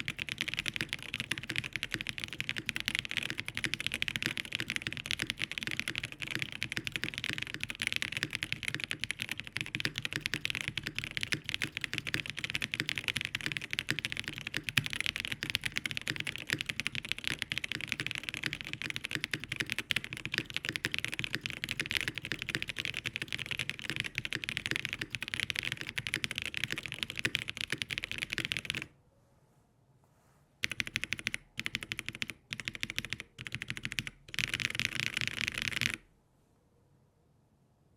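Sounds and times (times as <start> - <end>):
mechanical keyboard typing: 0.0 - 28.9, 30.6 - 36.0.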